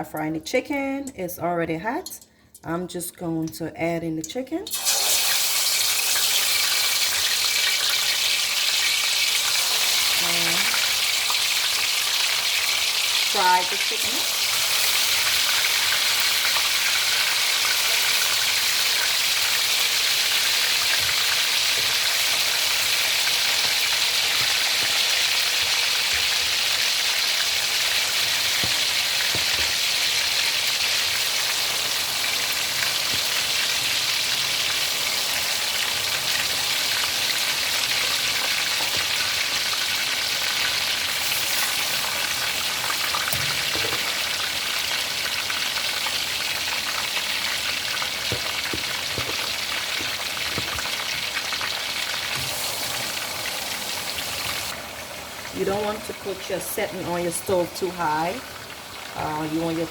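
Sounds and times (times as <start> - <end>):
chicken frying in hot oil: 4.7 - 59.9.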